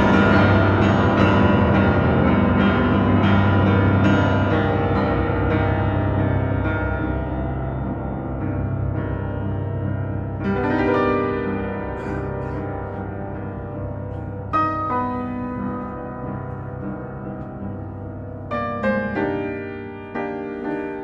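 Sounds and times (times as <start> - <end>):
solo piano chords: 0.0 - 21.0.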